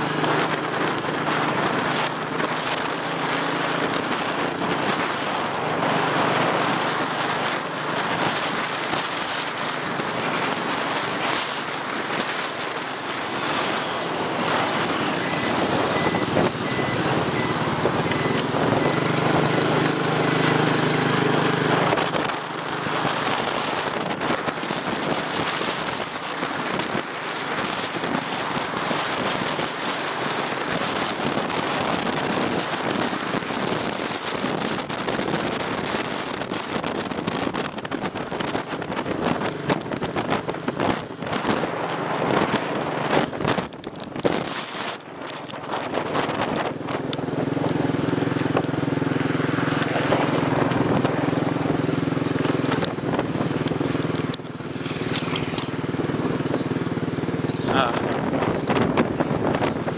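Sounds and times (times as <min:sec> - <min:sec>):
motorcycle engine: 0:00.0 - 0:59.9
road noise: 0:00.0 - 0:59.9
wind buffeting microphone: 0:00.0 - 0:59.9.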